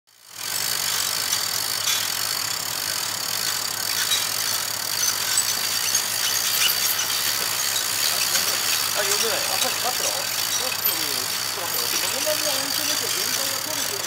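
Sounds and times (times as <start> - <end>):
diesel engines idling: 0.4 - 14.0.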